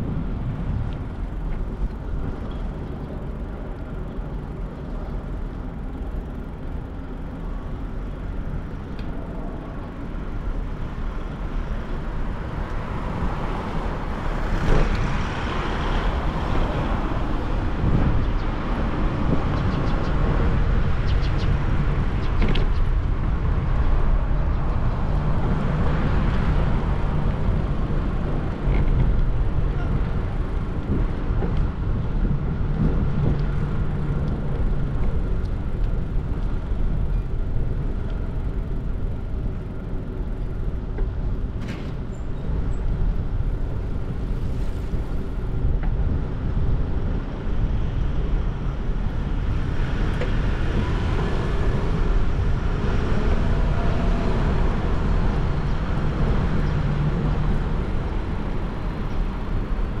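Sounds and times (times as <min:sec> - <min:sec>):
road traffic rumble: 0:00.0 - 1:00.0.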